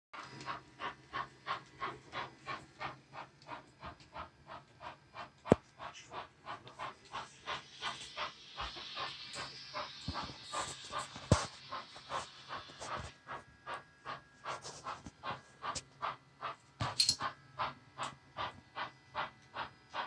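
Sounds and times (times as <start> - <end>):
model steam locomotive chuffing: 0.2 - 20.0
steam-like hiss: 0.2 - 20.0.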